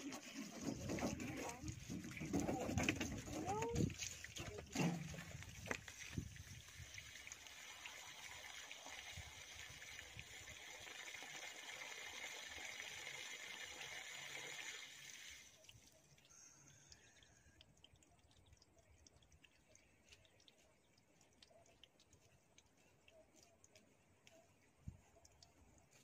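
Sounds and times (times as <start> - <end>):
garden hose spraying water: 0.0 - 26.0.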